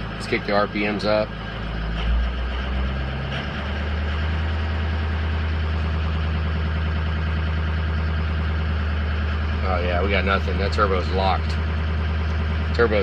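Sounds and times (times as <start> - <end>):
diesel engine fast idle: 0.0 - 13.0.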